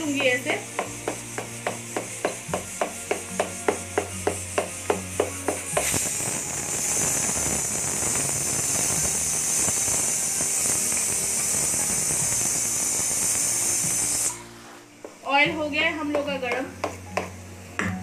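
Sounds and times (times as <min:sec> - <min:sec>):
hot oil sizzling: 0:00.0 - 0:15.2
plucked background music: 0:00.0 - 0:18.0.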